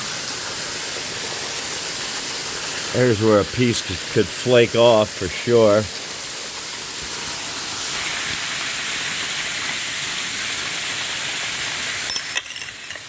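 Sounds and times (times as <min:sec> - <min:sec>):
waterfall splashing onto rock: 0:00.0 - 0:13.0.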